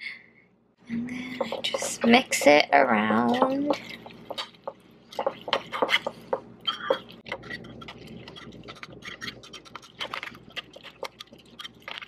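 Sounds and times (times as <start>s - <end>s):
wet mushy stirring: 1.3s - 12.0s.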